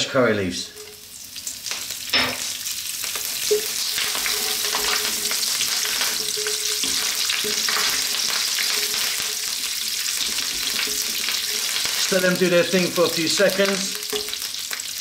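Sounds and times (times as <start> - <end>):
spices sizzling in hot oil: 0.4 - 15.0.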